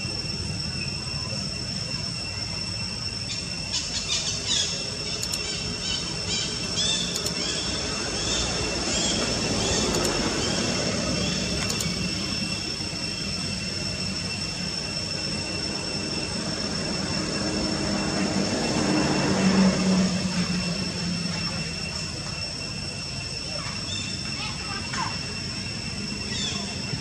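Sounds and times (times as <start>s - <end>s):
high-pitched whine: 0.0s - 27.0s
low engine-like hum: 0.0s - 27.0s.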